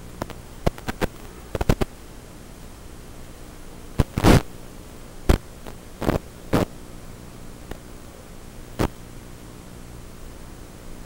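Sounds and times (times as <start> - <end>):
static crackles: 0.0 - 11.0
static hiss and hum: 0.0 - 11.0.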